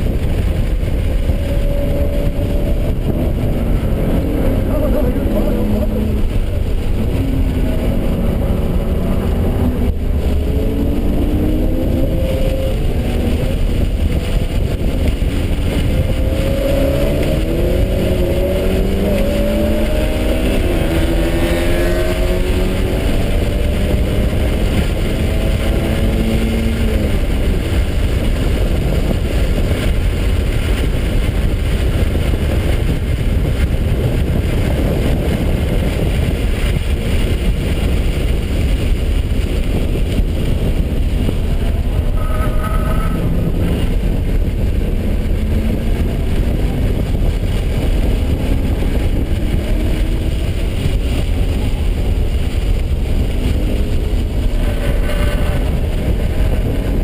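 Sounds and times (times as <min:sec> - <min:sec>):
car engine revving: 0:00.0 - 0:57.0
wind and road noise: 0:00.0 - 0:57.0.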